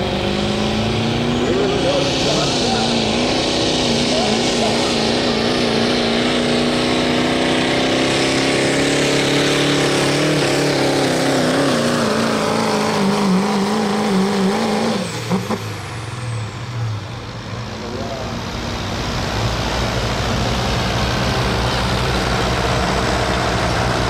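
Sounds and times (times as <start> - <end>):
diesel engine at full throttle: 0.0 - 24.0.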